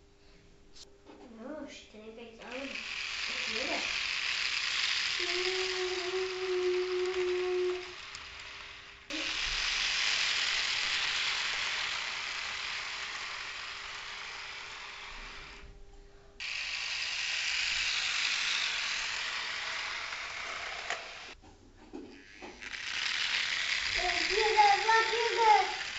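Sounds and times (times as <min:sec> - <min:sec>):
model train whirring and rattling: 0:02.4 - 0:15.6, 0:16.4 - 0:21.4, 0:22.2 - 0:25.9.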